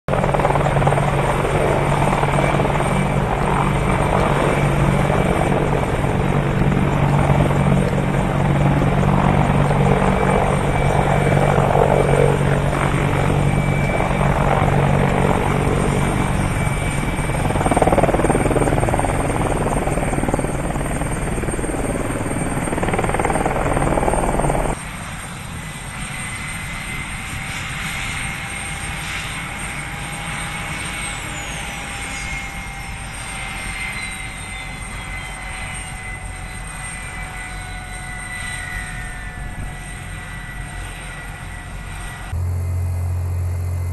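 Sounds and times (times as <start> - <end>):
aircraft engine drone: 0.1 - 43.9.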